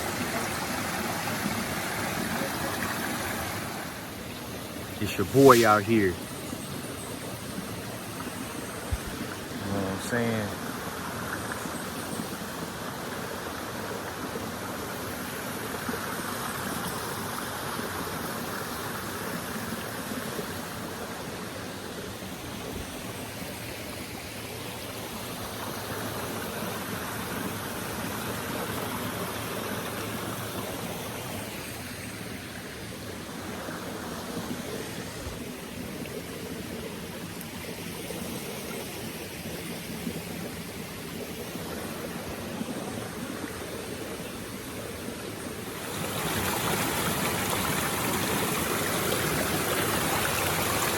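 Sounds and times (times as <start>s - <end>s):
water rushing over rocks: 0.0s - 6.4s, 7.3s - 22.5s, 24.0s - 50.9s.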